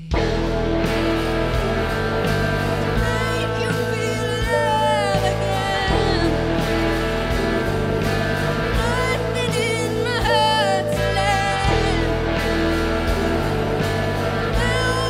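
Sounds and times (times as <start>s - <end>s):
electric guitar and band: 0.0s - 15.0s
woman singing lead vocal: 2.8s - 15.0s.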